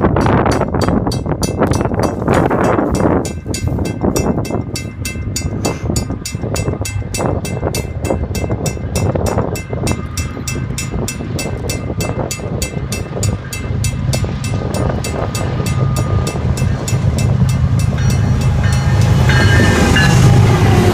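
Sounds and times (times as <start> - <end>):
train rumbling past: 0.0 - 20.9.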